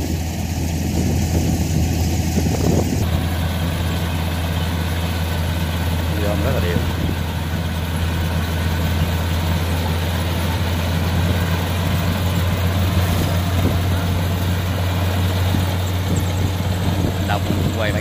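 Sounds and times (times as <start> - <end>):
combine harvester diesel engine drone: 0.0 - 18.0.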